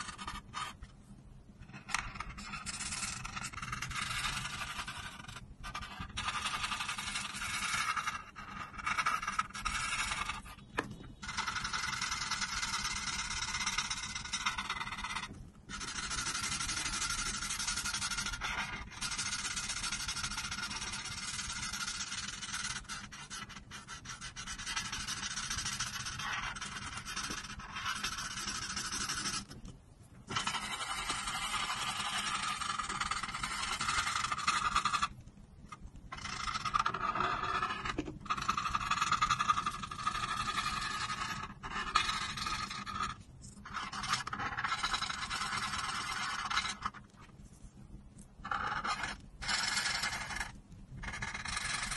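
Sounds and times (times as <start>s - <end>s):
marker scratching on paper: 0.0s - 1.0s, 1.6s - 51.9s.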